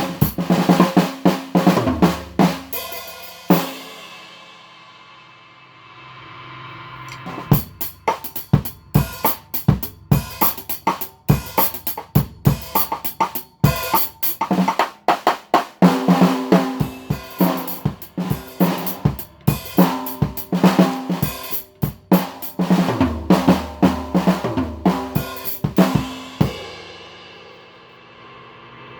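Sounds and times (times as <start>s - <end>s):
drum kit playing fast groove: 0.0s - 4.5s, 7.2s - 27.7s.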